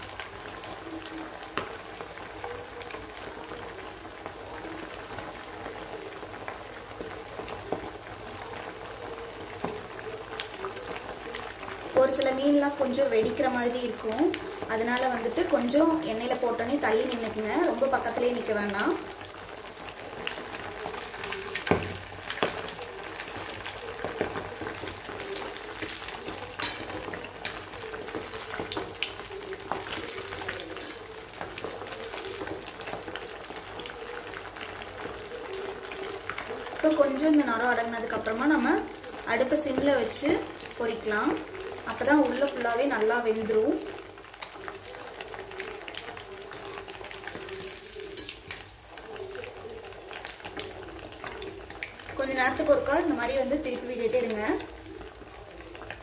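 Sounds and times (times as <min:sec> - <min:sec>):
fish deep-frying in oil: 0:00.0 - 0:56.0.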